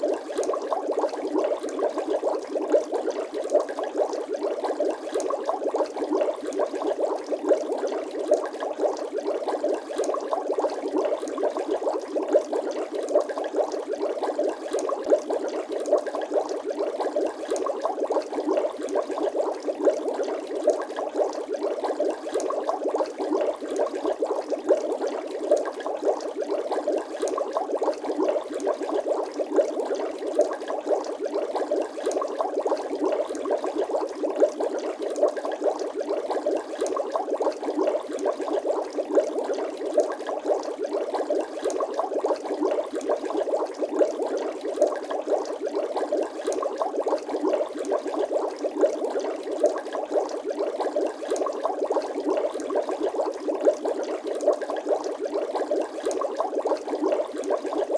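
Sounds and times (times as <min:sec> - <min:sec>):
water bubbling: 0:00.0 - 0:57.9.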